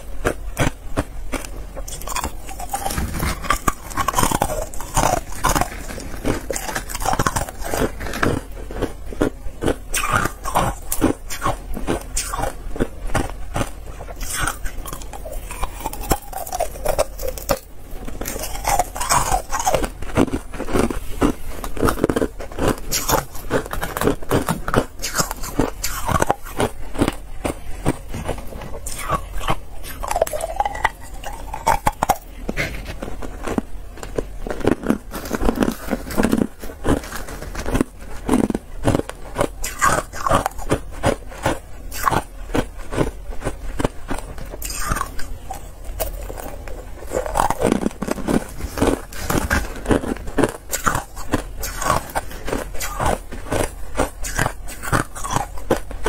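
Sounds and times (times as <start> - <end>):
ice crunching while chewed: 0.0 - 56.0.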